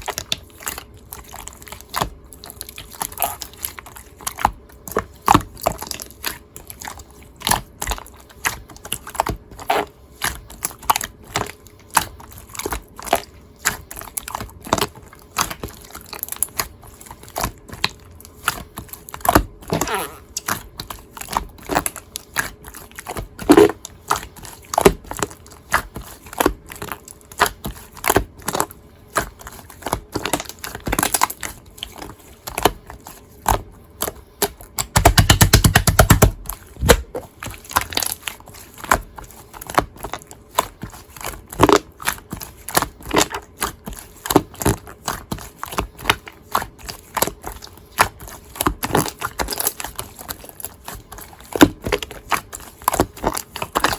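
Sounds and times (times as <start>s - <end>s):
slime squished by hand: 0.0s - 53.9s.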